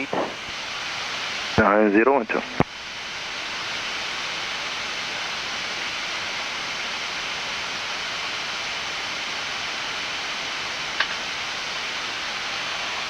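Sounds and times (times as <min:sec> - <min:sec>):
rushing air in cockpit: 0:00.0 - 0:13.0.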